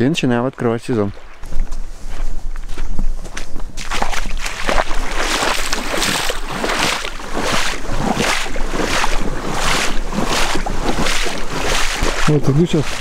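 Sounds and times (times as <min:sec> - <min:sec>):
footsteps rustling: 0:00.0 - 0:13.0
wind rumble on microphone: 0:01.0 - 0:13.0.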